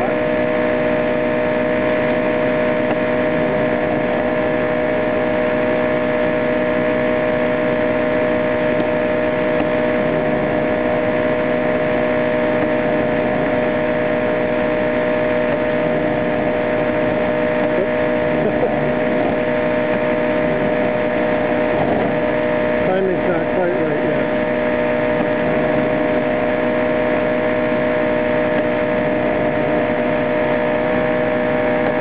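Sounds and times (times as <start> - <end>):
air compressor running: 0.0 - 32.0.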